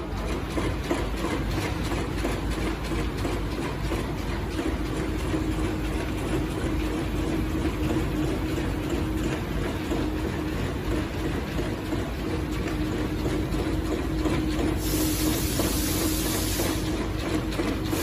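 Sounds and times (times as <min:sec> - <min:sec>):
paper cutting machine running: 0:00.0 - 0:18.0.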